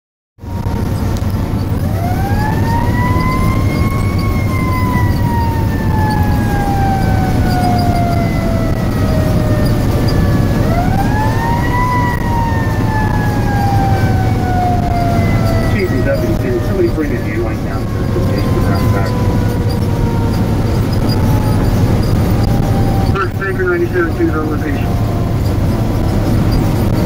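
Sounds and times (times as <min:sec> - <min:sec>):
siren rising and falling: 0:00.4 - 0:27.0
truck engine and road noise: 0:00.4 - 0:27.0.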